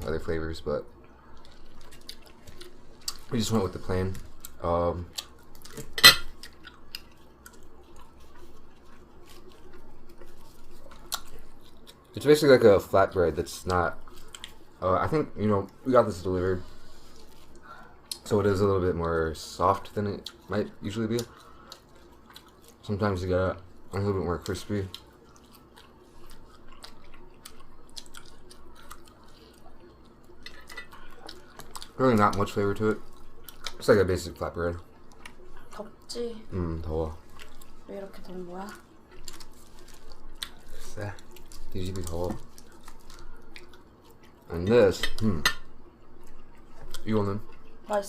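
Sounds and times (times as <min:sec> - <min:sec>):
chewing soft bread: 0:00.9 - 0:47.9.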